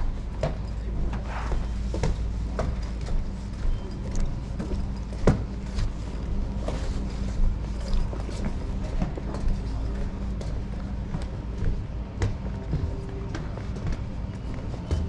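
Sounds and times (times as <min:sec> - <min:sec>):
footsteps on platform: 0:00.0 - 0:15.0
steady low rumble: 0:00.0 - 0:15.0.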